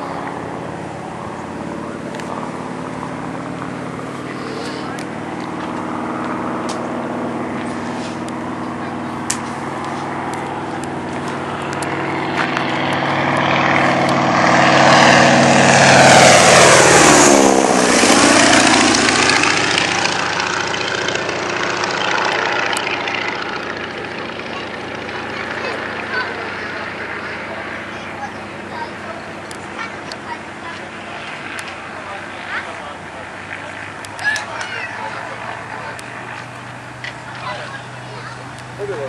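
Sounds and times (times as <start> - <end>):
propeller plane engine flying past: 0.0 - 39.0.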